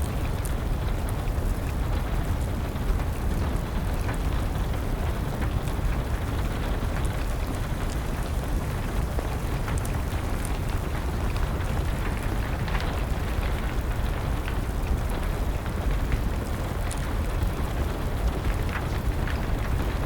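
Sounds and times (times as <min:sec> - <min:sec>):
rain: 0:00.0 - 0:20.0
wood fire crackling: 0:00.0 - 0:20.0.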